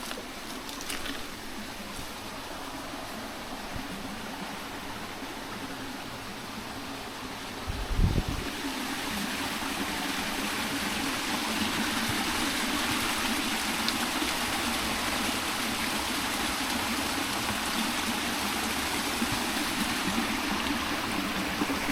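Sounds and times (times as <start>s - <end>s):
stream water rushing: 0.0s - 21.9s.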